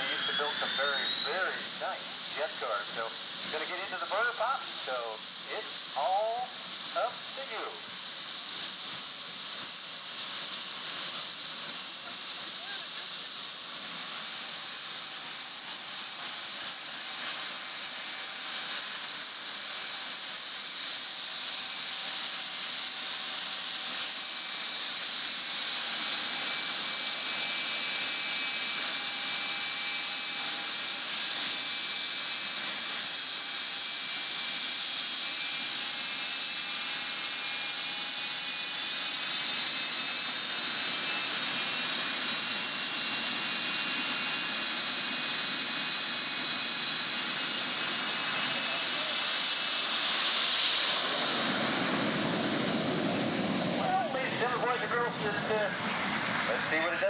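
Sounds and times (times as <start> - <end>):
turbine engine whine and roar: 0.0 - 57.0.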